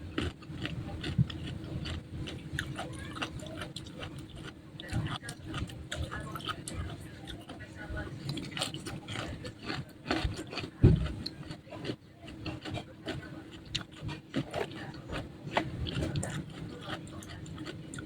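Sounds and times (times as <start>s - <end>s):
crunching and chewing fried food: 0.0s - 18.0s.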